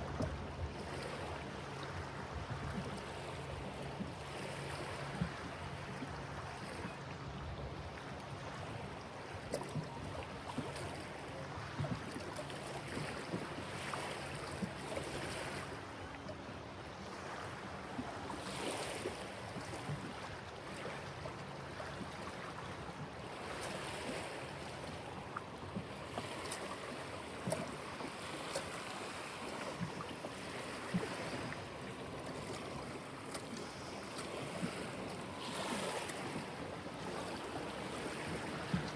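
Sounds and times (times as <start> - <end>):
river water lapping: 0.0 - 38.9
small water splashes: 0.0 - 38.9
wind: 0.0 - 38.9.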